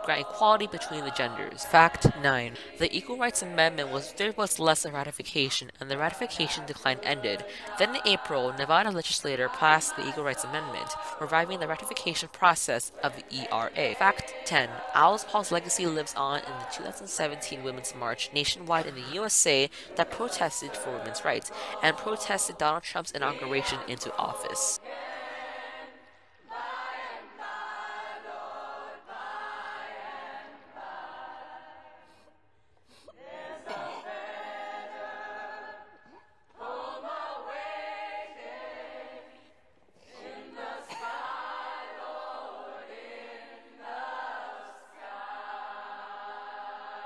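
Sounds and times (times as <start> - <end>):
choir singing a cappella: 0.0 - 32.3, 32.9 - 47.0.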